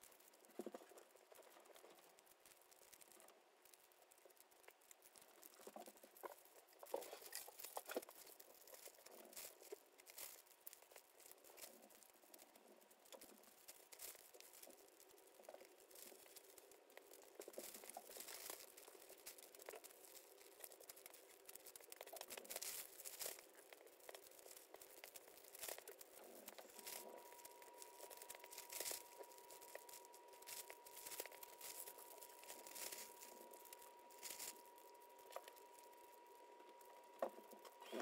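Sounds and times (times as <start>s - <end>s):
plastic bags crinkling: 5.3s - 38.0s.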